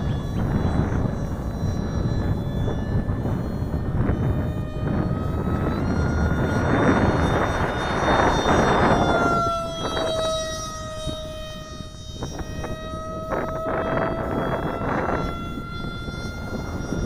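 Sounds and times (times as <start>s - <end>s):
electric motor and propeller whining: 0.0s - 17.0s.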